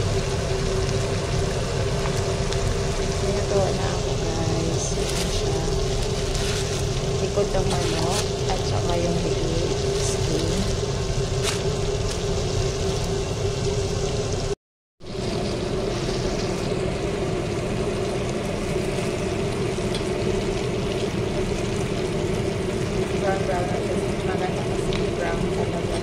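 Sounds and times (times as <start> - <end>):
oil sizzling and bubbling: 0.0 - 26.0
steady hum: 0.0 - 26.0.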